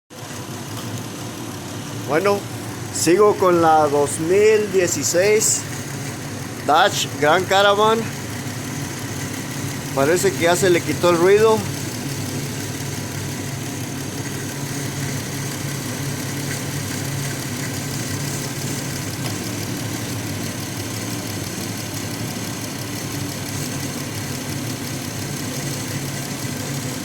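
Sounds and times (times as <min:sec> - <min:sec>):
car engine idling: 0:00.1 - 0:27.0
belt tensioner noise: 0:00.7 - 0:27.0.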